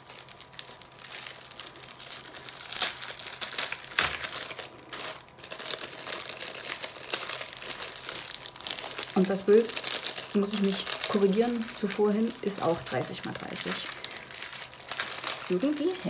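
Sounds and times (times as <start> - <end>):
plastic film crinkling: 0.0 - 16.0.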